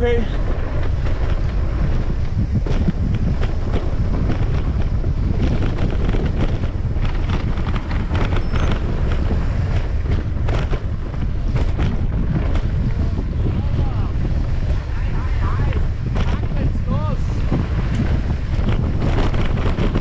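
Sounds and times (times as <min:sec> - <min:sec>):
bike rattles and knocks: 0:00.0 - 0:20.0
wind buffeting microphone: 0:00.0 - 0:20.0.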